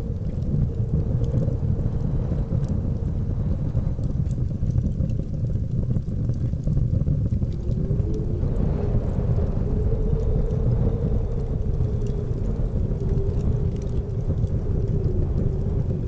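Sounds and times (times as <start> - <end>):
blizzard wind howling: 0.0 - 16.0
wood fire crackling: 0.0 - 16.0.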